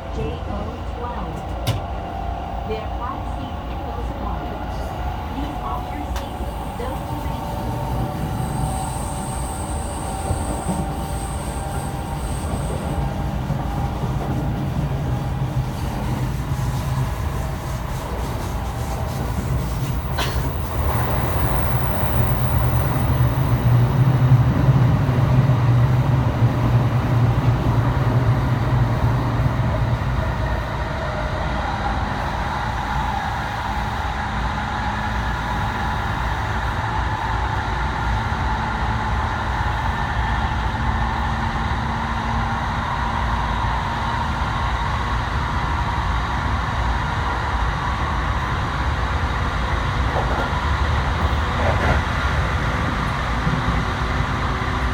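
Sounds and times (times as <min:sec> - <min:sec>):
train running rumble: 0:00.0 - 0:54.9.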